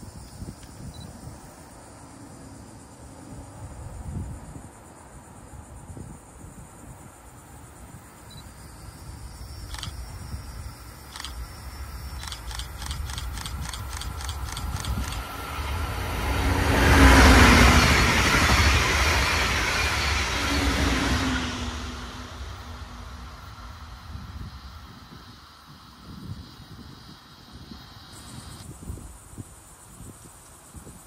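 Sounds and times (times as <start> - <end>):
train passing at speed: 1.0 - 31.0.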